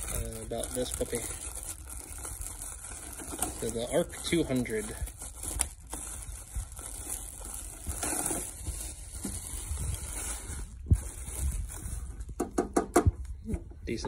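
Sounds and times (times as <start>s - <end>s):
packaging handling noise: 0.0s - 12.8s.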